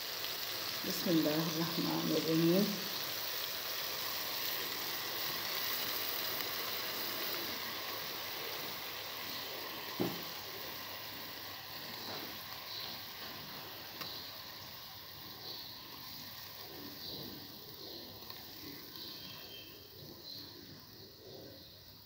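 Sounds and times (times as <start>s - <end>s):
sauce sizzling and bubbling in a pot: 0.0s - 22.0s.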